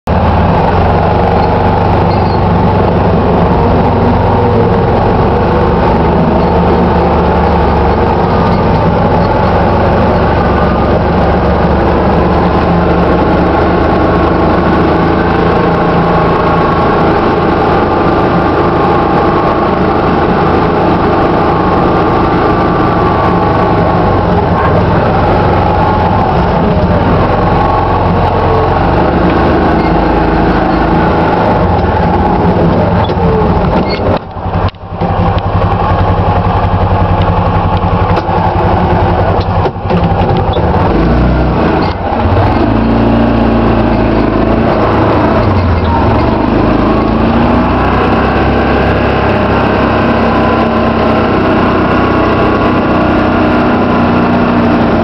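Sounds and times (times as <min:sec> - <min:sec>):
utility vehicle engine running: 0:00.0 - 0:55.0.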